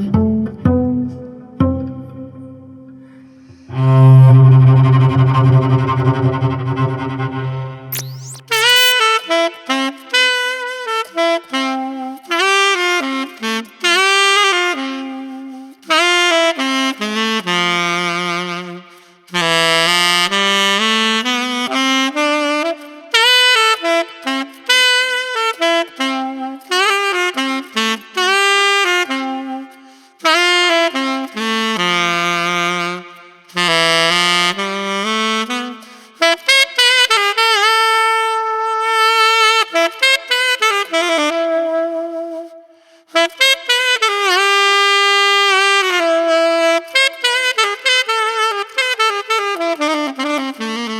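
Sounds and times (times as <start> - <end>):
solo saxophone melody: 3.6 - 50.9.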